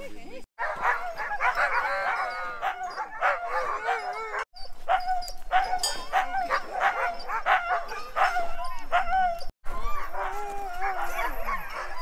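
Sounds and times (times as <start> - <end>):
dogs barking and howling: 0.6 - 12.0.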